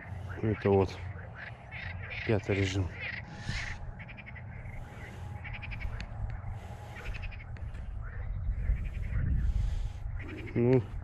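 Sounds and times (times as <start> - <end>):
frogs croaking: 0.0 - 11.0
low rumble: 0.0 - 11.0.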